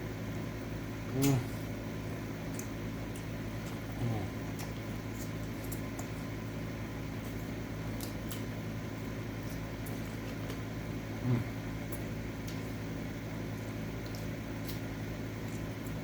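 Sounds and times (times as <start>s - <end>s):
room fan humming: 0.0s - 16.0s
person chewing food: 1.0s - 16.0s.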